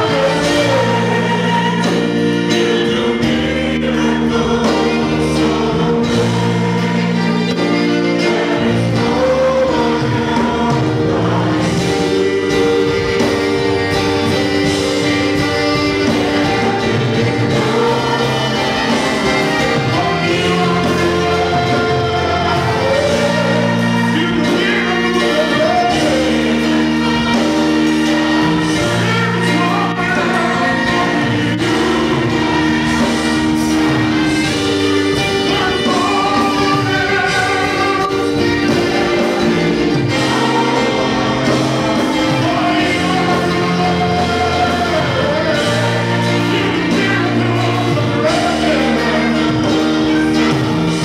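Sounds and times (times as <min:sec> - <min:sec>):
choir singing gospel song: 0:00.0 - 0:51.0
electric keyboard chords: 0:00.0 - 0:51.0.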